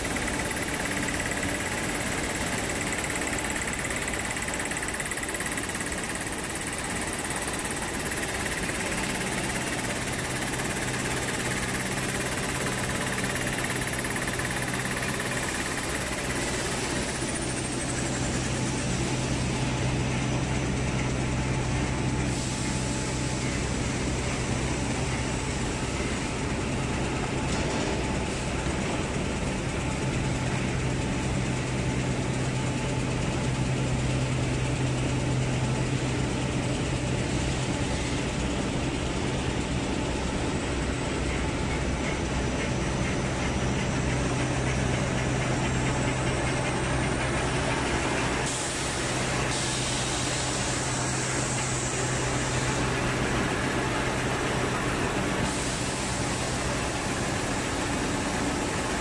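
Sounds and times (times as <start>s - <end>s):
machine mechanical drone: 0.0s - 59.0s.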